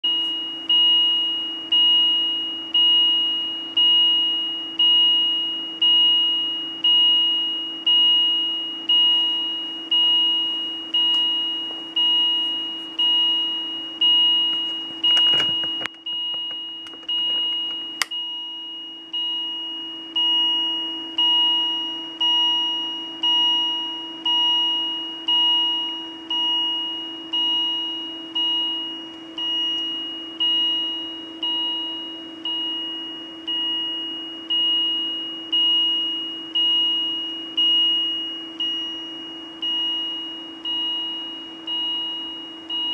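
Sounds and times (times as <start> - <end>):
high-pitched monitor alarm beep: 0.0 - 42.9
steady low hum: 0.0 - 42.9.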